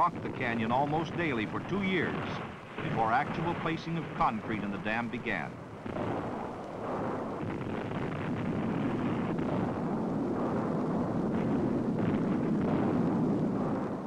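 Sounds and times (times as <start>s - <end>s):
low rumble of rockfall: 0.0s - 14.0s.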